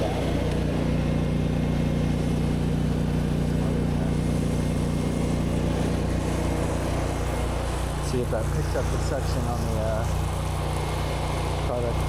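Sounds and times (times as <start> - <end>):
pressure washer engine running: 0.0 - 12.0.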